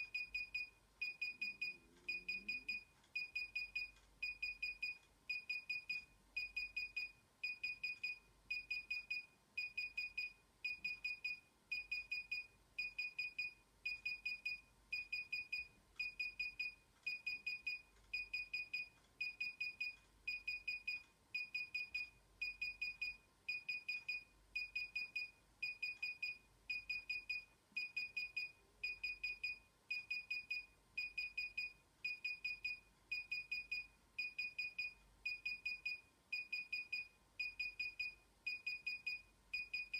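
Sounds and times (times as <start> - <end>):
remote controller beeping: 0.1 - 39.9.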